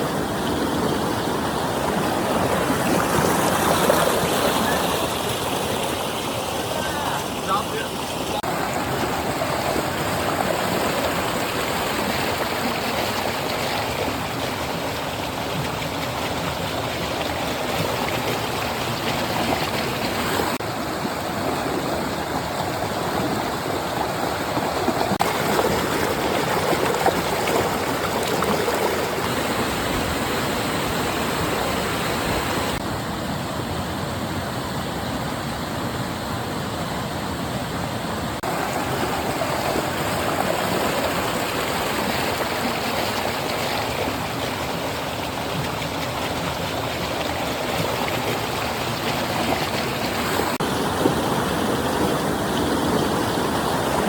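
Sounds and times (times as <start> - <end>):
stream water babbling: 0.0 - 54.0.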